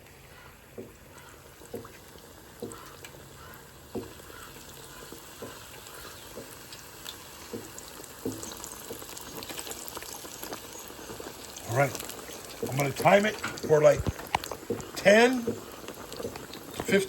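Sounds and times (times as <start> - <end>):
oil bubbling in deep fryer: 0.0 - 17.0
soft popping of frying oil: 0.0 - 17.0.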